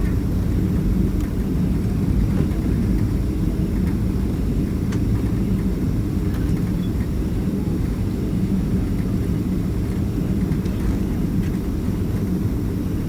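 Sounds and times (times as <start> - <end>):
jet engines low rumble: 0.0 - 13.0.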